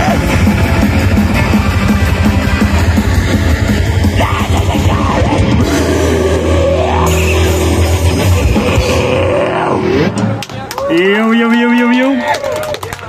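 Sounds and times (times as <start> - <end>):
metal band playing live: 0.0 - 10.5.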